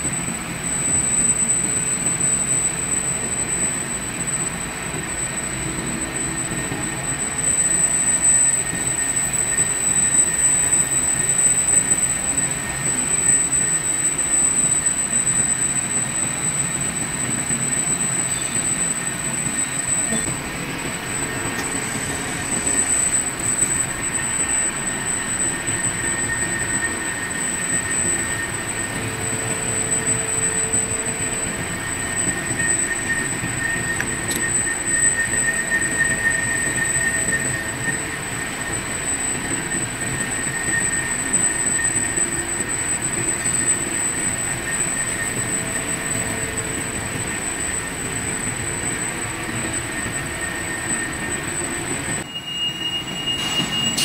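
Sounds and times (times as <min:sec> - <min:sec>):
thin high whine: 0:00.0 - 0:54.0
low whistle from cut: 0:00.1 - 0:54.0.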